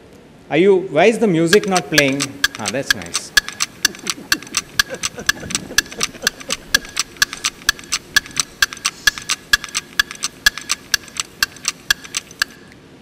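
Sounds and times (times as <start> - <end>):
ticking countdown music: 1.5 - 12.7.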